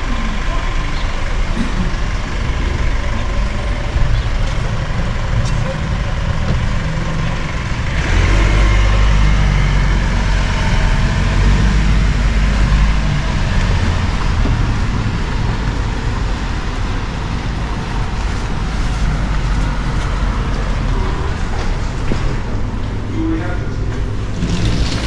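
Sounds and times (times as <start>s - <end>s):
road traffic rumble: 0.0s - 25.0s
vehicle engine running nearby: 0.0s - 25.0s.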